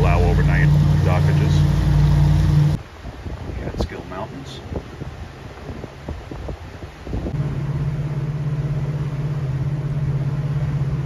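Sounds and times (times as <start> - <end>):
boat engines droning: 0.0 - 5.6, 6.7 - 11.0
wind rumble on microphone: 0.0 - 11.0.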